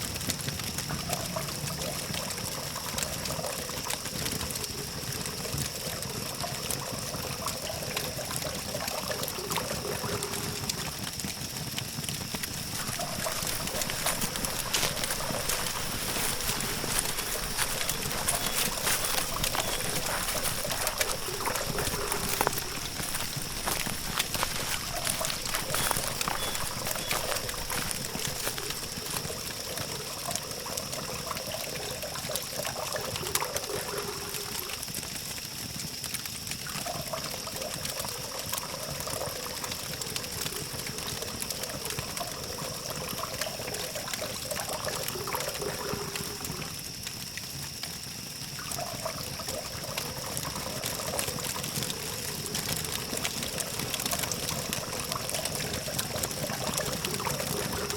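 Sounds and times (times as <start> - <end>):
campfire crackling: 0.0 - 57.9.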